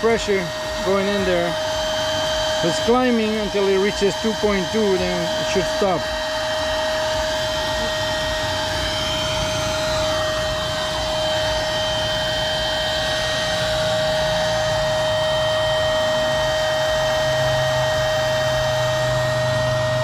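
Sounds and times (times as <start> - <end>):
electric inflation pump whining: 0.0 - 20.0.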